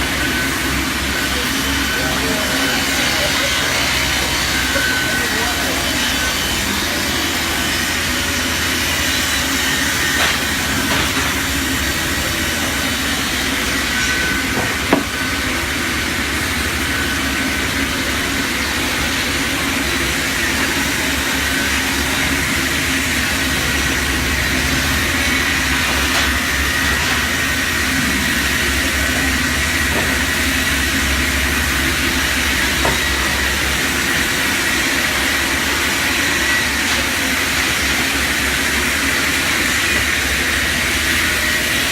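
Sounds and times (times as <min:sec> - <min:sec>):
log saw machine running: 0:00.0 - 0:41.9.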